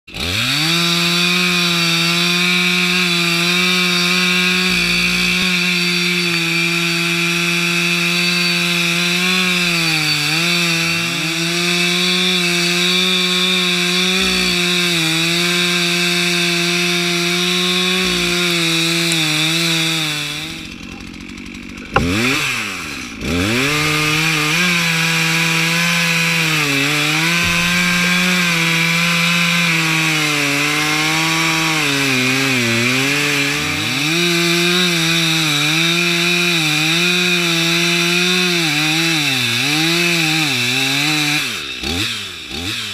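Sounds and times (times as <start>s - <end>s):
chainsaw cutting into tree trunk: 0.1s - 42.9s.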